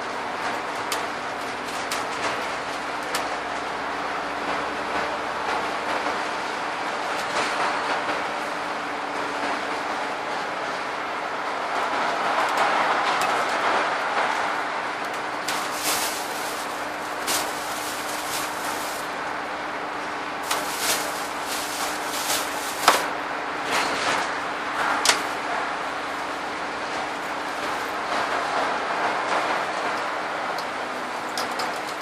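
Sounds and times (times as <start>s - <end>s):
bus body rattling and clicking: 0.0s - 32.0s
bus engine and road noise: 0.0s - 32.0s
constant low whine: 0.0s - 32.0s.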